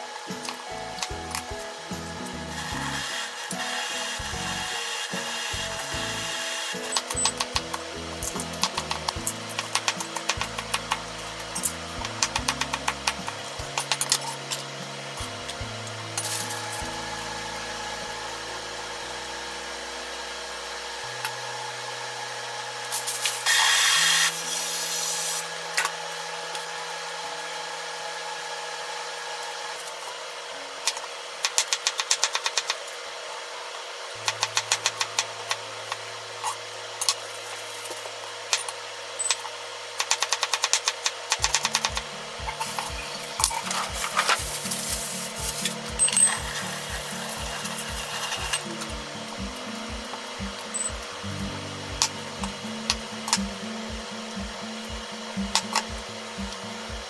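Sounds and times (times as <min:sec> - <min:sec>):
soft background music: 0:00.0 - 0:30.6, 0:34.2 - 0:39.4, 0:40.2 - 0:57.0.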